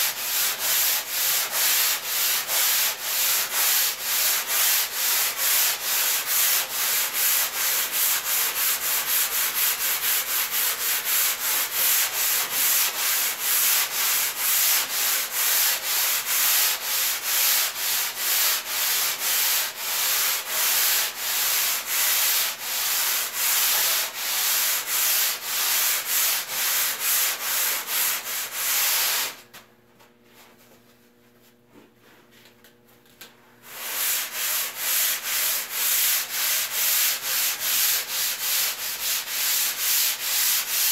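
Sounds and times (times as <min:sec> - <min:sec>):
sanding block rubbing: 0:00.0 - 0:29.4, 0:33.7 - 0:40.9.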